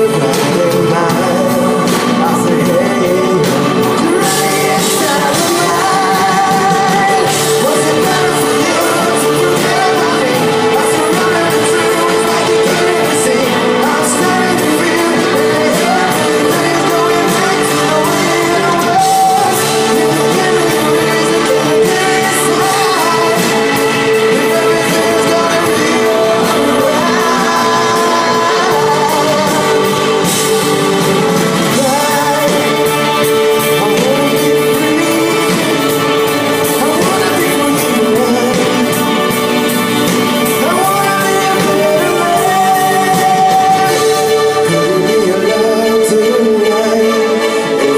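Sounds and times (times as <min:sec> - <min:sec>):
electric guitar: 0:00.0 - 0:47.9
live pop band playing: 0:00.0 - 0:47.9
person singing: 0:00.0 - 0:47.9.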